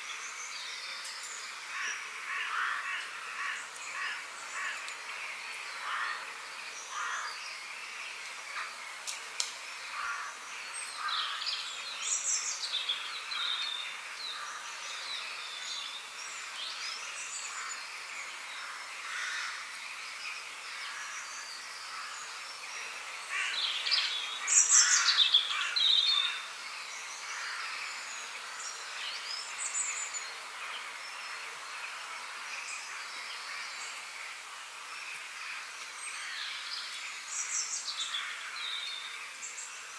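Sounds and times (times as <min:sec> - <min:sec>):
songbirds singing and chirping: 0:00.0 - 0:39.9
steady background hiss: 0:00.0 - 0:39.9.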